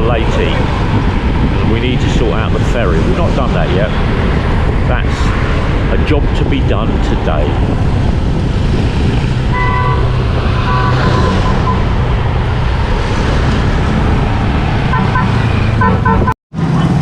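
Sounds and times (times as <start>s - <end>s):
motorcycle engine drone: 0.0s - 17.0s
wind and road noise: 0.0s - 17.0s.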